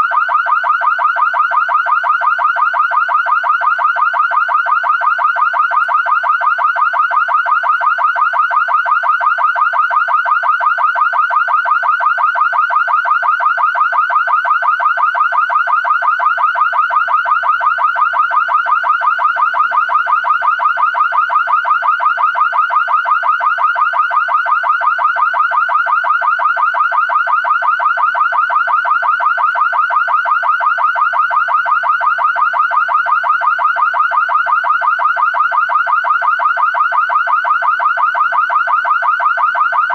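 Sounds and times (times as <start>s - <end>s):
car alarm siren warbling: 0.0s - 39.9s.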